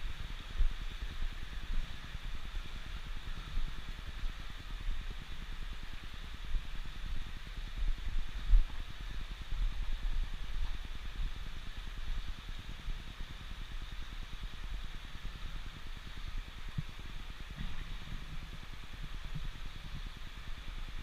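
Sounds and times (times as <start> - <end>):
low rumble on microphone: 0.0 - 21.0.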